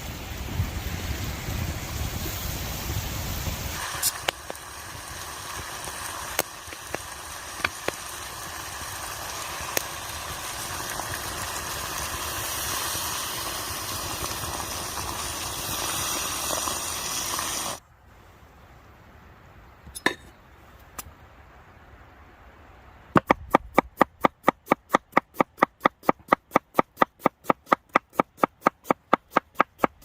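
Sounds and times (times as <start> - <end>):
steady hissing noise: 0.0 - 30.0.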